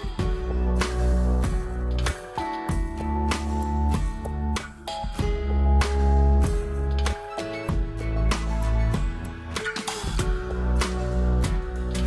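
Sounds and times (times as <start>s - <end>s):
background music with bass: 0.0s - 12.0s.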